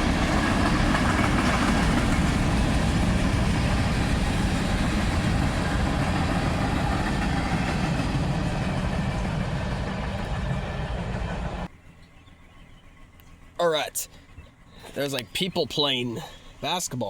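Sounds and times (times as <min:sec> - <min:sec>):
passing train rumbling: 0:00.0 - 0:15.3.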